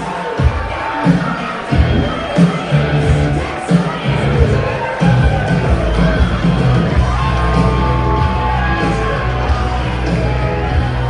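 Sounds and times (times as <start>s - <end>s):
loud music with heavy bass: 0.0s - 11.0s
people yelling and whooping: 0.0s - 11.0s
person singing: 0.0s - 11.0s.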